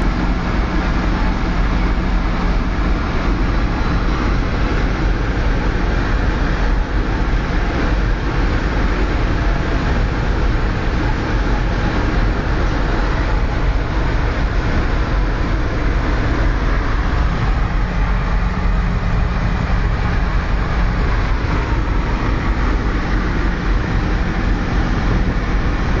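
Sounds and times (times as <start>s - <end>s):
car engine drone: 0.0s - 26.0s
road and wind noise: 0.0s - 26.0s.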